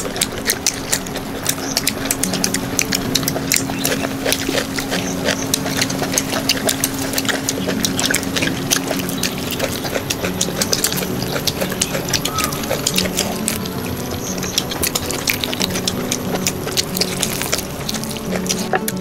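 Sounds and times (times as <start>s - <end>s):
dense crackling: 0.0s - 19.0s
low hum: 0.0s - 19.0s
soup bubbling in a pot: 0.0s - 19.0s.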